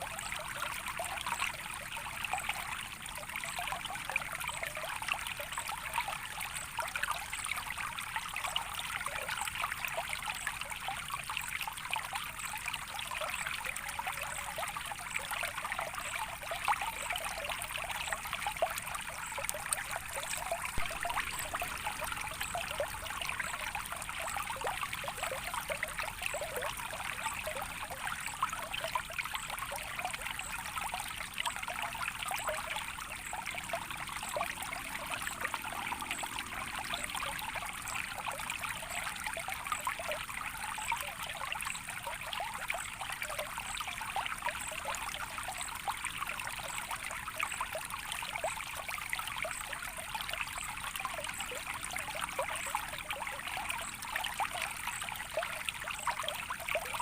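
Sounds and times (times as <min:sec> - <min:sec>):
stream trickling and babbling: 0:00.0 - 0:57.0.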